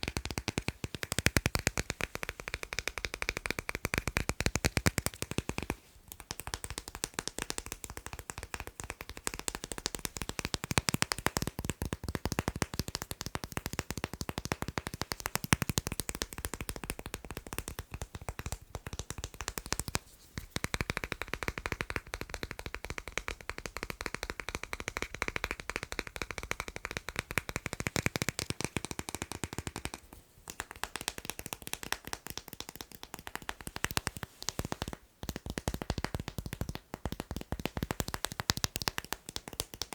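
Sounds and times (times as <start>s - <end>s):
fast tapping on magnets: 0.0s - 39.9s.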